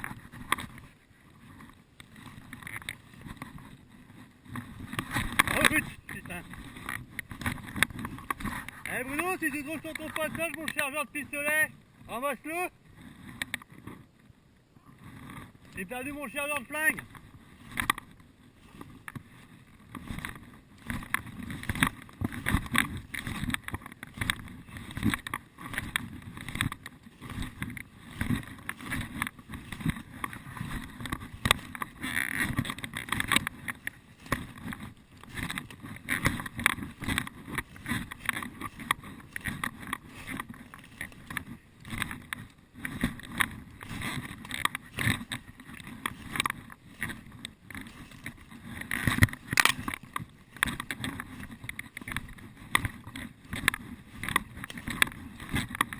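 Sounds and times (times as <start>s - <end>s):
footsteps crunching through undergrowth: 0.0s - 12.6s, 15.2s - 55.9s.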